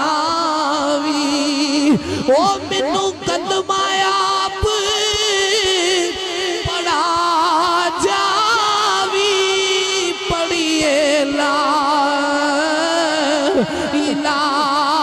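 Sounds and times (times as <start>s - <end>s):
man chanting melismatic song: 0.0s - 15.0s.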